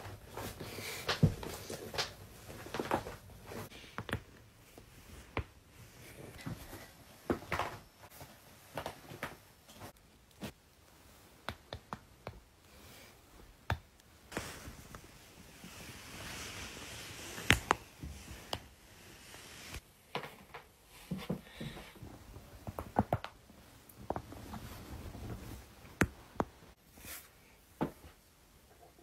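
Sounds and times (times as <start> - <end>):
clothing rustling: 0.0 - 19.8, 21.0 - 28.5.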